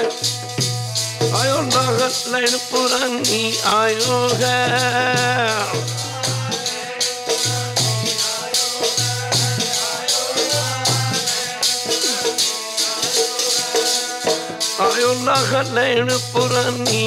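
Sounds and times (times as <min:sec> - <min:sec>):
chimta jingling: 0:00.0 - 0:17.0
dholak drum beat: 0:00.0 - 0:17.0
harmonium melody: 0:00.0 - 0:17.0.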